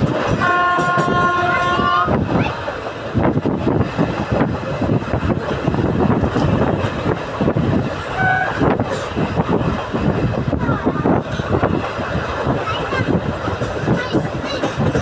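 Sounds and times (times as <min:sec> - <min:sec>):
train wheels rumbling on rail: 0:00.0 - 0:15.0
wind buffeting microphone: 0:00.0 - 0:15.0.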